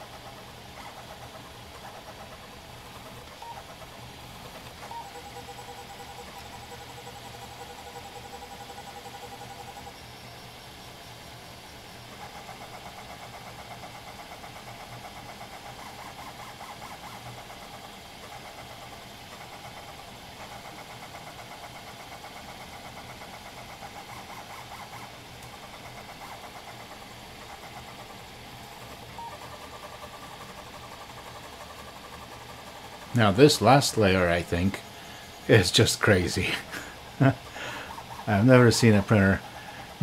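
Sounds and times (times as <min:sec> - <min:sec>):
stepper motors fluttering buzz: 0:00.0 - 0:40.0.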